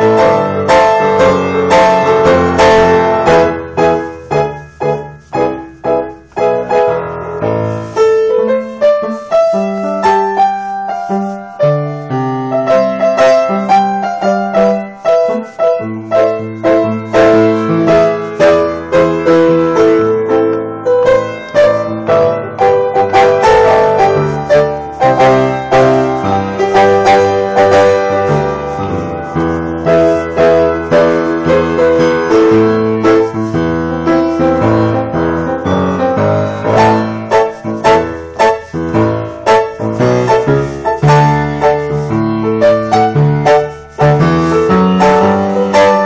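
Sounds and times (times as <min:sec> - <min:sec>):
solo piano chords: 0:00.0 - 0:46.0.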